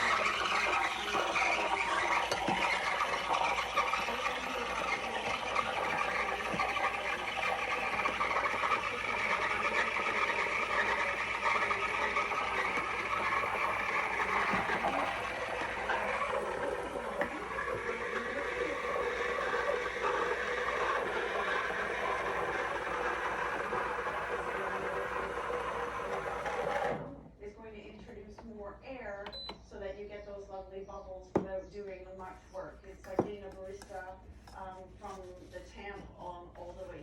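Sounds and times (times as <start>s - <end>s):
steam wand frothing milk: 0.0s - 27.2s, 32.2s - 37.0s.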